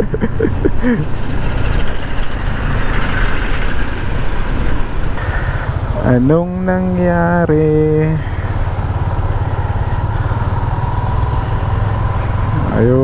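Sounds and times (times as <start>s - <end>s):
motorcycle engine: 0.0s - 13.0s
road noise: 0.0s - 13.0s.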